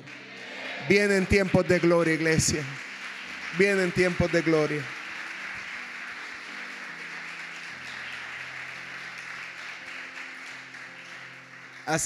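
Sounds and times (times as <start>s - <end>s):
congregation applauding: 0.0s - 12.0s
soft sustained music chords: 0.0s - 12.0s.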